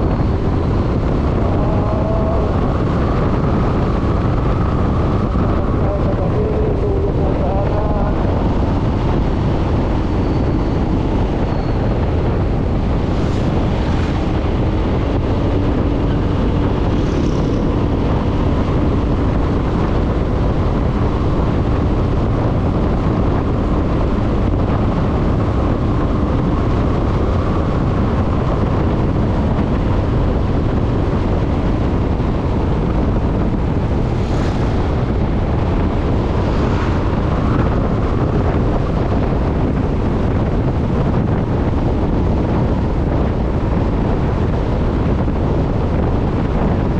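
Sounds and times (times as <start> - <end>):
motorcycle engine drone: 0.0 - 46.9
wind rushing over microphone: 0.0 - 46.9.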